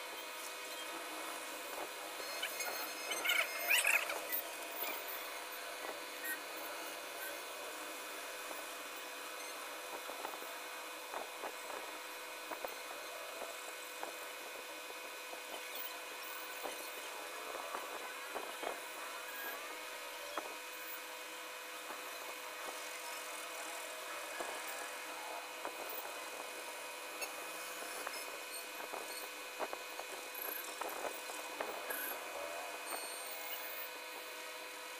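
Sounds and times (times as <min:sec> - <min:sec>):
faint steady whine: 0:00.0 - 0:34.9.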